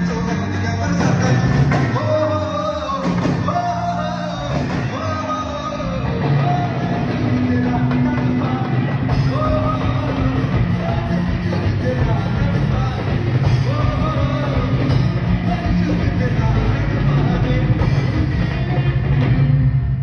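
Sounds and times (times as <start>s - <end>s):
man singing live: 0.0s - 19.1s
band playing: 0.0s - 20.0s.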